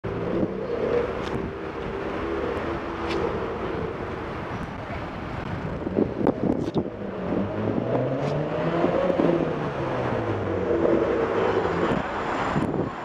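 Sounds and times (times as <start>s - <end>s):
car engines in traffic: 0.0s - 13.0s
wind on microphone: 0.0s - 13.0s.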